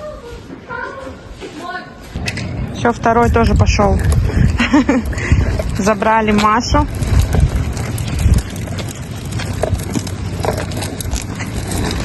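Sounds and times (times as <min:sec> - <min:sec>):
wind and handling rumble: 0:02.0 - 0:12.0.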